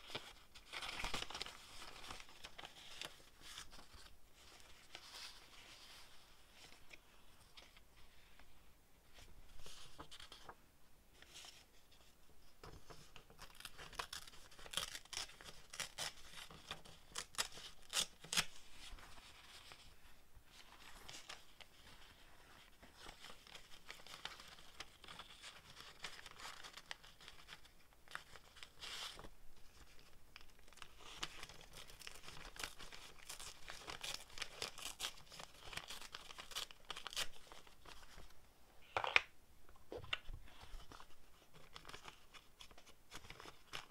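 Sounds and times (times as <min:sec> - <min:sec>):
paper crinkling: 0:00.0 - 0:07.8, 0:12.6 - 0:19.9, 0:20.5 - 0:38.4, 0:40.0 - 0:43.9.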